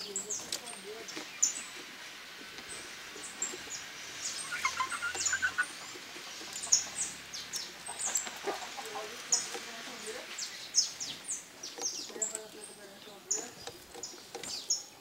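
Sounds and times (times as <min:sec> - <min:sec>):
birds high chirps: 0:00.0 - 0:15.0
lower-pitched bird calls: 0:00.0 - 0:15.0.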